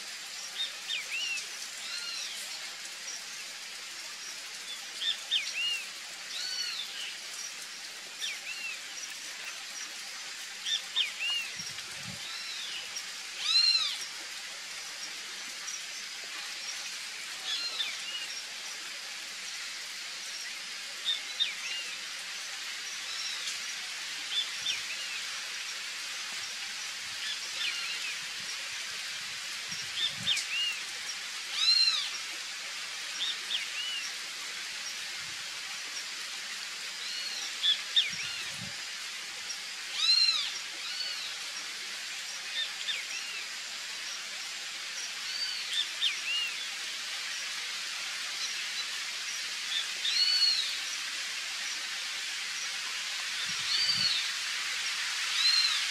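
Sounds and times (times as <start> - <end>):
rain hiss: 0.0 - 55.9.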